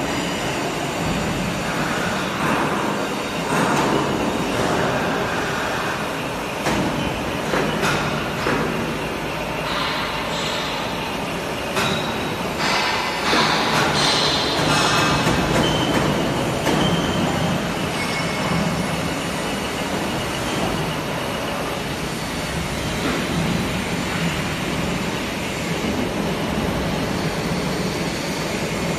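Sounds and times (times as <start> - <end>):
lathe humming and whining: 0.0 - 28.9.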